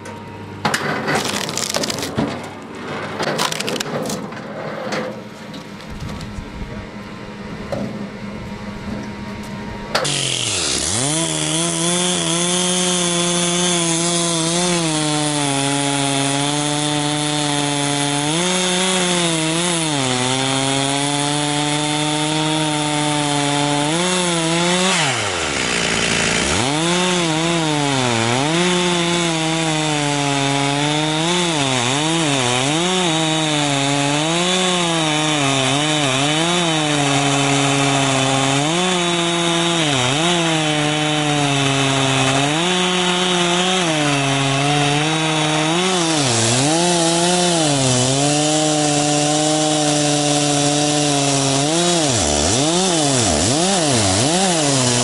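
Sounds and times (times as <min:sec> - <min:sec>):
chainsaw cutting wood: 0:00.7 - 0:04.5, 0:09.9 - 0:55.0.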